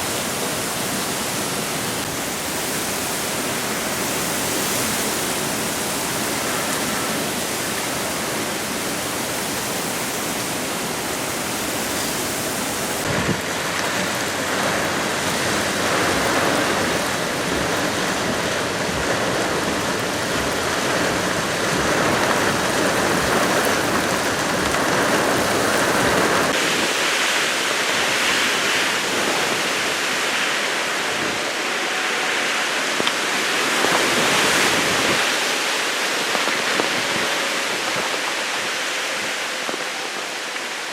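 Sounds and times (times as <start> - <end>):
heavy rain and wind rushing: 0.0 - 40.9.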